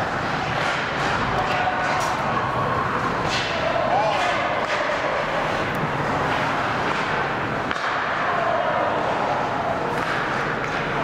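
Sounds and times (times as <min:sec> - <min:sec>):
arena crowd noise: 0:00.0 - 0:11.0.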